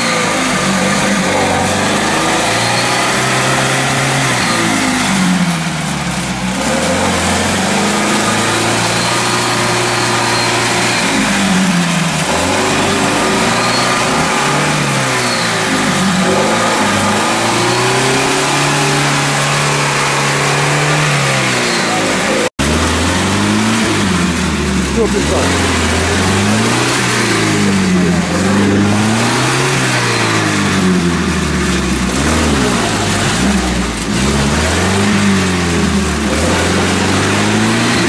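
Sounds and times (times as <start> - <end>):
engine revving under load: 0.0 - 38.0.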